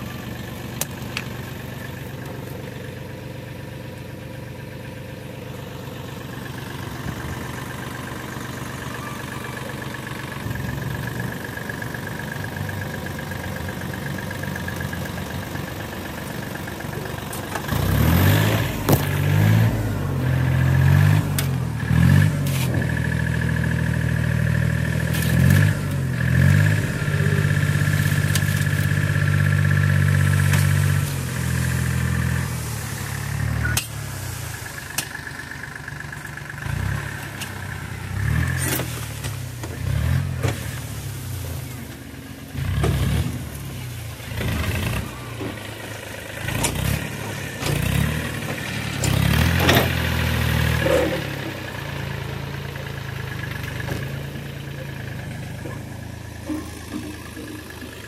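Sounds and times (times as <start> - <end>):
tractor diesel engine revving: 0.0 - 58.0.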